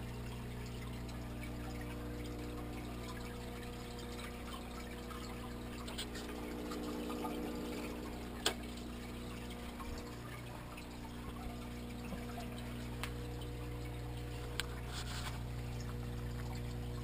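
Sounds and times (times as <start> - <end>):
filter pump hum: 0.0 - 17.0
water pouring and trickling: 0.0 - 17.0.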